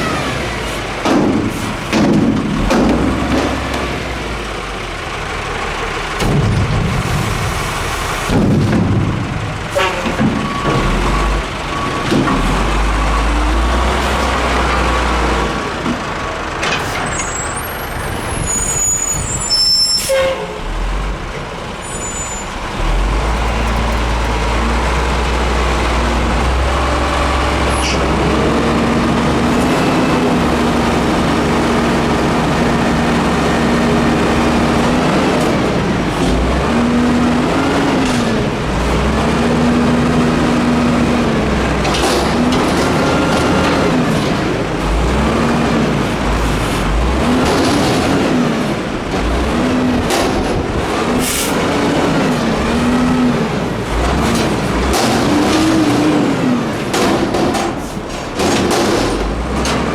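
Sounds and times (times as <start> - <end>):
truck diesel engine revving: 0.0 - 19.6, 20.6 - 59.9.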